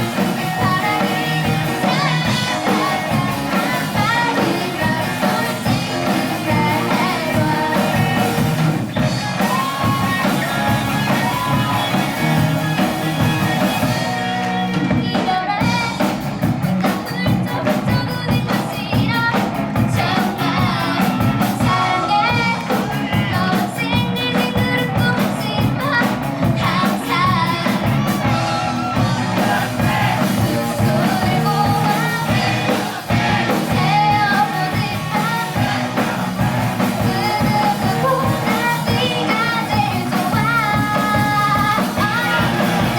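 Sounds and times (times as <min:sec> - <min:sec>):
person singing: 0:00.0 - 0:42.9
rock band playing live: 0:00.0 - 0:42.9.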